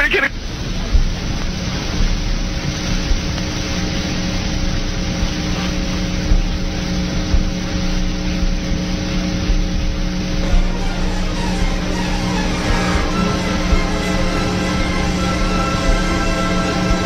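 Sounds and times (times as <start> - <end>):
low steady hum: 0.0 - 17.0
radio static hiss: 0.0 - 17.0.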